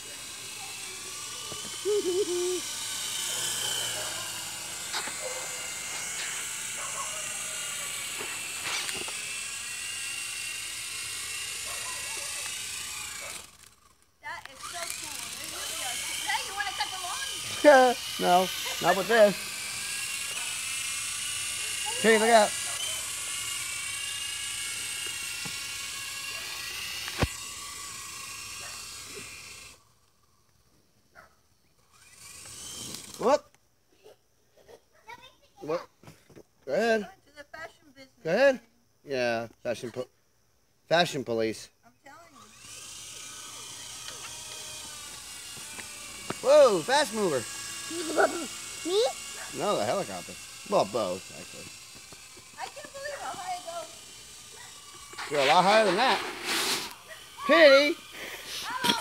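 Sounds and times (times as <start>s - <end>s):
toy helicopter motor whining: 0.0s - 37.8s, 41.0s - 59.0s.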